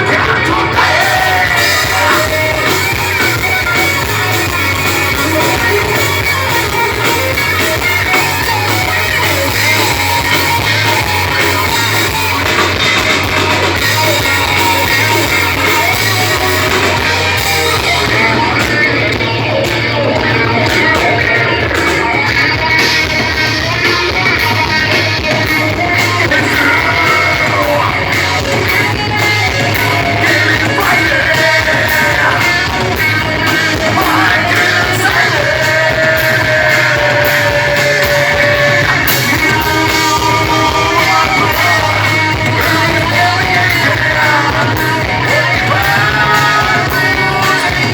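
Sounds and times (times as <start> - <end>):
drums: 0.0 - 47.9
electric guitar: 0.0 - 47.9
person singing and shouting: 0.0 - 47.9.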